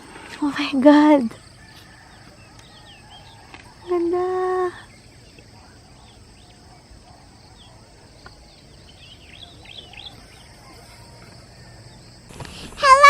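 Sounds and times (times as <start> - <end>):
faint outdoor background: 0.0 - 13.0
small birds chirping: 0.0 - 13.0.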